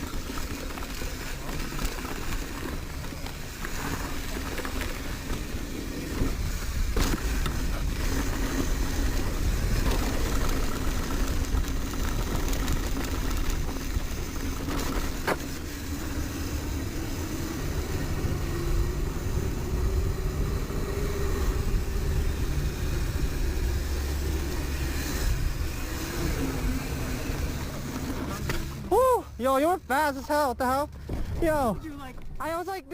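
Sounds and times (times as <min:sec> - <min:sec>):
bike clicking and rattling: 0:00.0 - 0:28.9
tyres rolling over dirt: 0:00.0 - 0:28.9.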